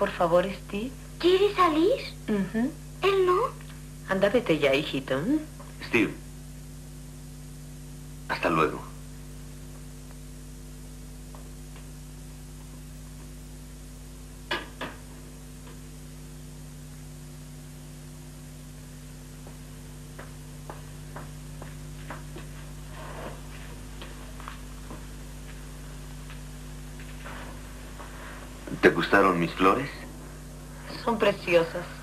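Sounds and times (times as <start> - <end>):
mains hum: 0.0 - 32.0.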